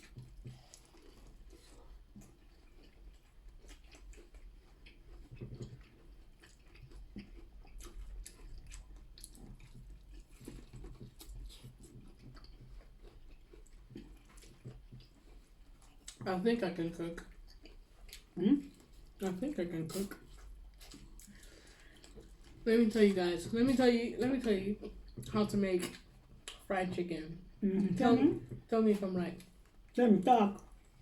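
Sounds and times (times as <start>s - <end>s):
chewing and eating mouth sounds: 0.0s - 31.0s.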